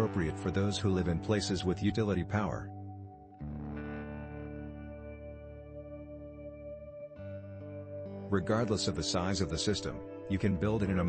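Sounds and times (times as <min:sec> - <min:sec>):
soft ambient instrumental music: 0:00.0 - 0:11.0.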